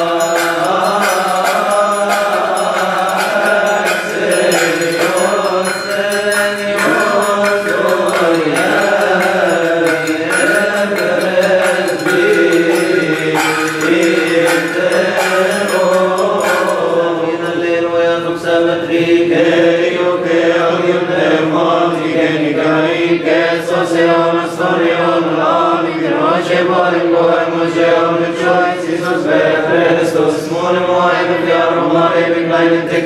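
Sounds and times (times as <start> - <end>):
voices chanting together: 0.0 - 33.0.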